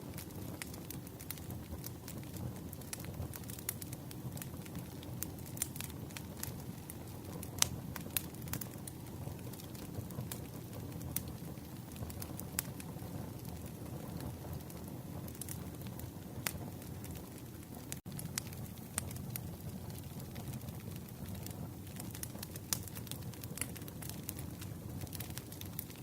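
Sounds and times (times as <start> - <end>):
campfire flames rumbling: 0.0 - 26.0
wood crackling and popping: 0.0 - 26.0.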